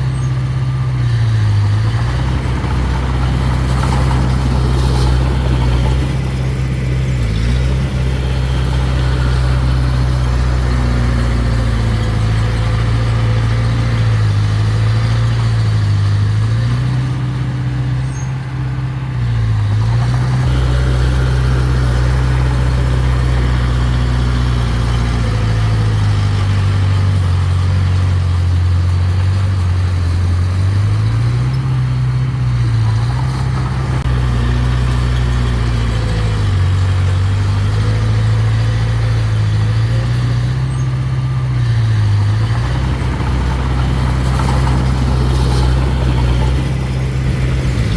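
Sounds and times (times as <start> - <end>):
bulldozer diesel engine lugging: 0.0 - 47.9.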